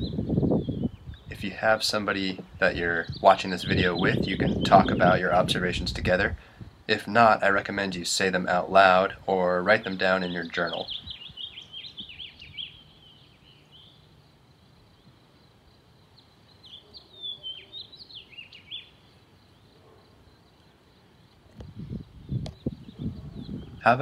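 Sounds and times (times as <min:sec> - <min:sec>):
faint outdoor background noise: 0:00.0 - 0:24.0
songbird chirping: 0:00.0 - 0:24.0.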